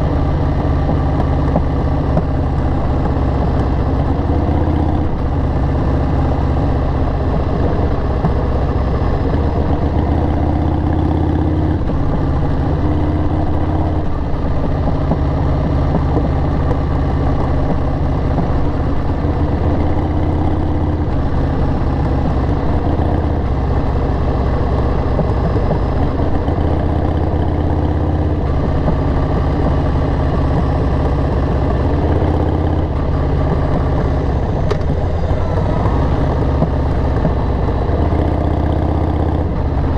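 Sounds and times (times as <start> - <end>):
motorcycle engine revving while riding: 0.0 - 39.9.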